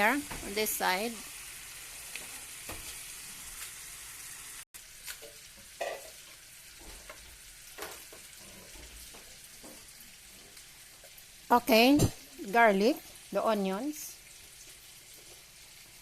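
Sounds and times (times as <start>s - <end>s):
scallops sizzling in a frying pan: 0.0s - 16.0s.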